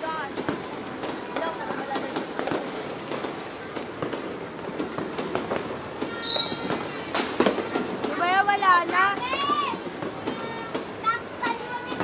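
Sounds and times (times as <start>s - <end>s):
fireworks crackling and popping: 0.0s - 12.0s
loud firework crack: 0.0s - 12.0s.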